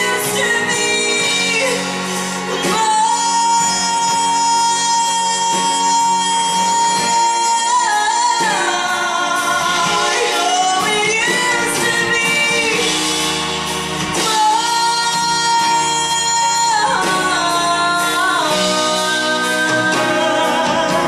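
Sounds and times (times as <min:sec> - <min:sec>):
instrumental accompaniment: 0:00.0 - 0:21.0
woman singing a ballad: 0:00.0 - 0:21.0.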